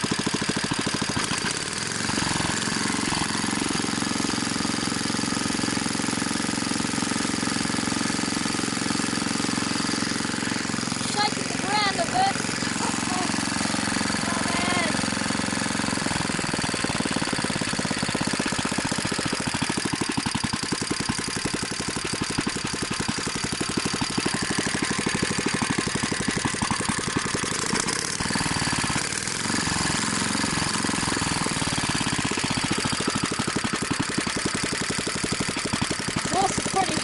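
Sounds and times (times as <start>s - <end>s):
single-cylinder engine running: 0.0s - 37.0s.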